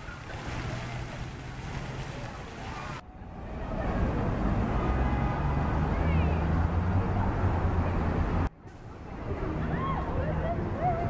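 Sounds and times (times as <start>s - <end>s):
engine rumble: 0.0s - 11.0s
street noise: 0.0s - 11.0s.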